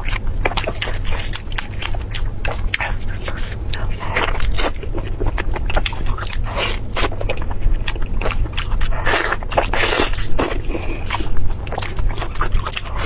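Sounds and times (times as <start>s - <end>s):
crunchy biting and chewing: 0.0s - 13.0s.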